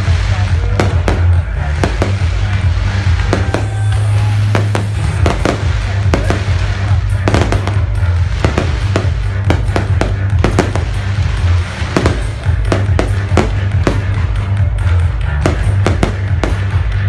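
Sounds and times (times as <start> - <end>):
fireworks banging: 0.0 - 17.0
music with heavy bass: 0.0 - 17.0.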